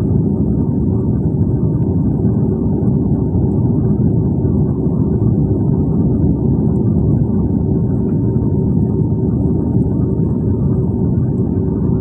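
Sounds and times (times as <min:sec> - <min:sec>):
airliner cabin engine rumble: 0:00.0 - 0:12.0
faint steady hum: 0:00.0 - 0:12.0.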